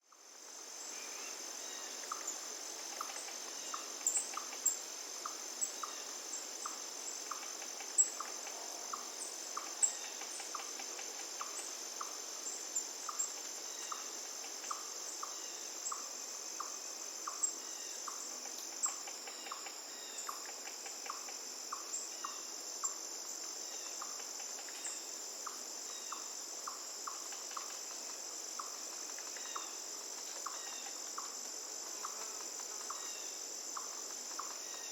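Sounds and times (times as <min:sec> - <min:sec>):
insect chorus: 0:00.0 - 0:34.9.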